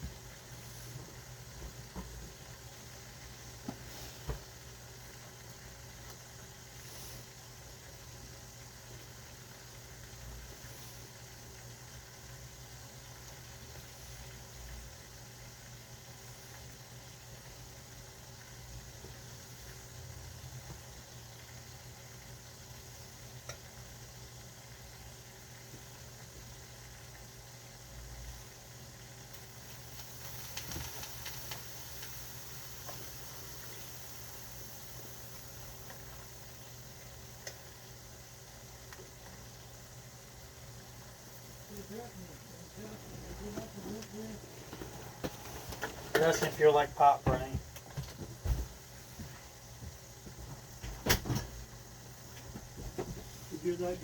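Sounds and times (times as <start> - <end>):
food sizzling and bubbling: 0.0 - 54.0.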